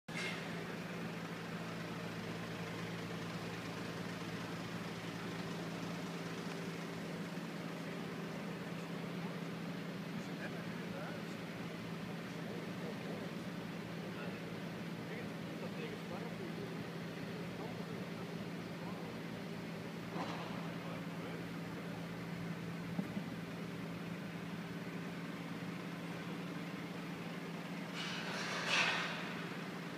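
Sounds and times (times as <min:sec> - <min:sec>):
low machine hum: 0:00.1 - 0:29.9
vehicle engine idling: 0:00.1 - 0:29.9.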